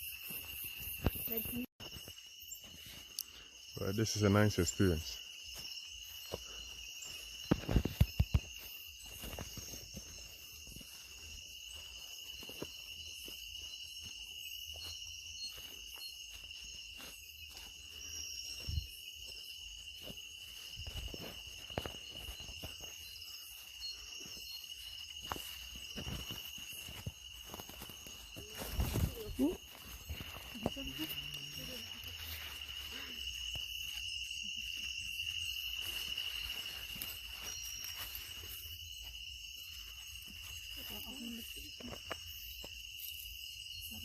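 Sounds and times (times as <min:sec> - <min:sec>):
insect trilling chorus: 0:00.0 - 0:44.0.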